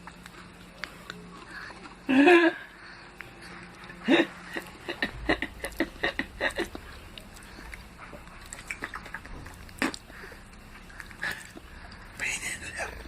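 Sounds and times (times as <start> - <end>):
baby chewing with mouth clicks: 0.0 - 2.1, 2.8 - 13.0.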